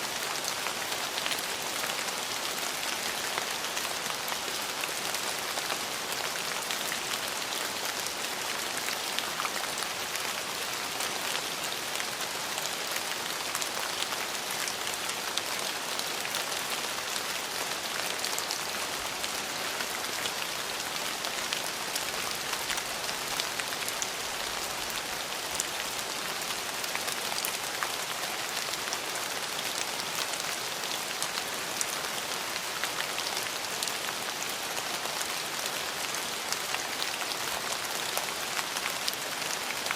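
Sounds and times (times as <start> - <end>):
rain pattering on hard surface: 0.0 - 39.9.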